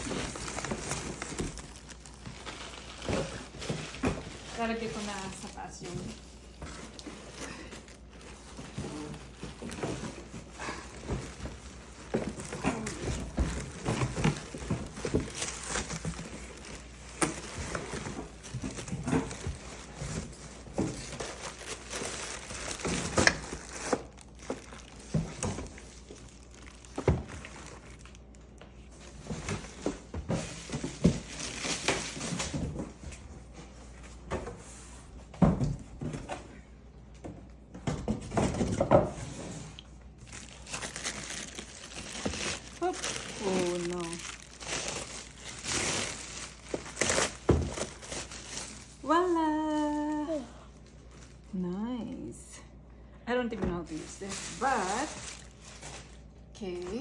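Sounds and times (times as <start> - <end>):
packaging crinkling and rustling: 0.0 - 32.9, 38.4 - 52.2, 53.8 - 57.0.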